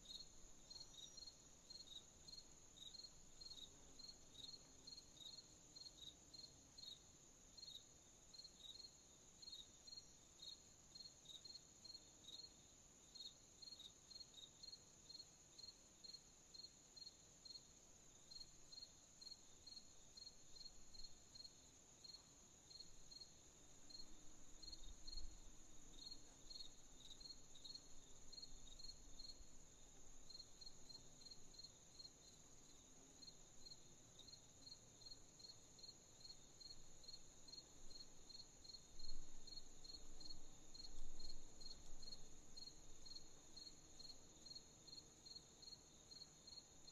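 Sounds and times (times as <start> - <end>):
cricket chirping: 0.0 - 46.9.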